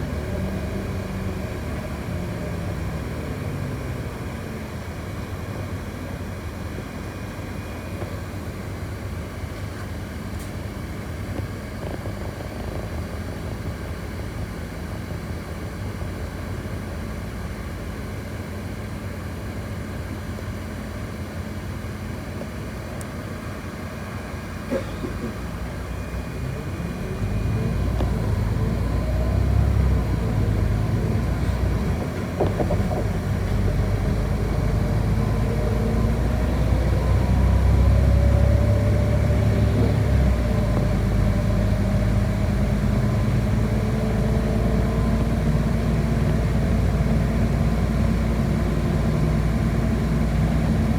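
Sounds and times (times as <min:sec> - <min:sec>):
bus drivetrain and road rumble: 0:00.0 - 0:50.9.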